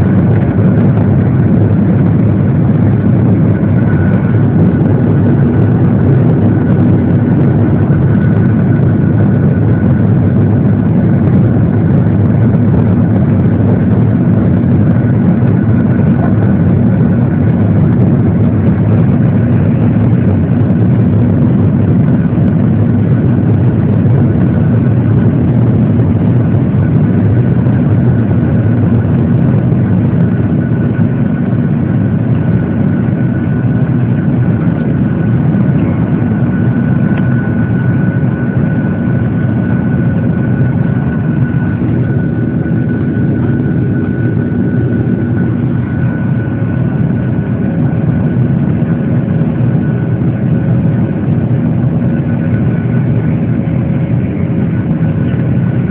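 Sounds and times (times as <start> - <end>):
high engine whine: 0.0 - 55.9
jet engine rumble in cabin: 0.0 - 55.9.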